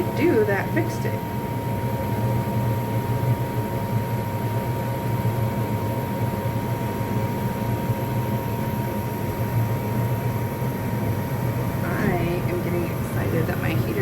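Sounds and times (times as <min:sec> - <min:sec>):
faint steady whine: 0:00.0 - 0:14.0
furnace fan and flame rush: 0:00.0 - 0:14.0.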